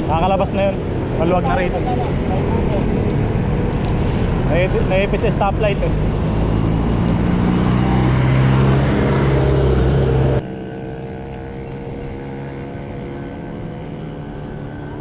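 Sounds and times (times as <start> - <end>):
road traffic: 0.0 - 15.0
vehicle engine drone: 0.0 - 15.0.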